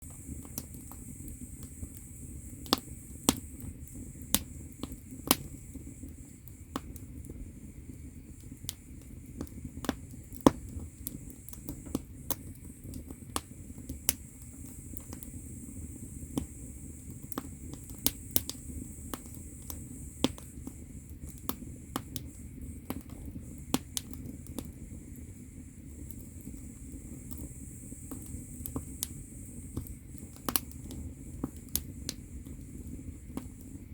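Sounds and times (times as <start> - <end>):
firewood crackling and popping: 0.0 - 33.9
low rumble of fire: 0.0 - 33.9.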